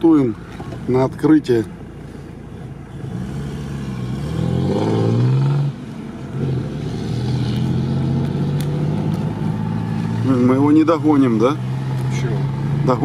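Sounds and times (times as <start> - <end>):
car engine accelerating: 2.0 - 13.0.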